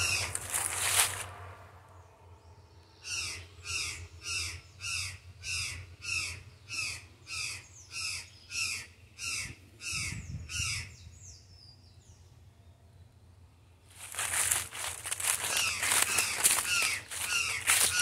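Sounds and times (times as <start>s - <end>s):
bird harsh calls: 0.0s - 1.3s, 2.0s - 12.2s, 13.9s - 18.0s.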